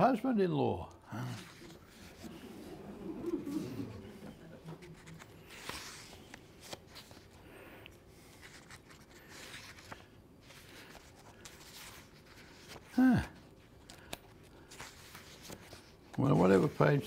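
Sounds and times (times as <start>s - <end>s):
book pages turning and rustling: 1.2s - 17.0s.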